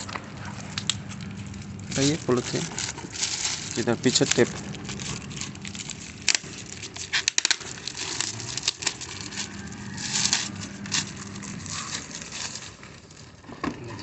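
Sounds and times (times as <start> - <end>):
plastic wrapping crinkling: 0.0 - 13.5.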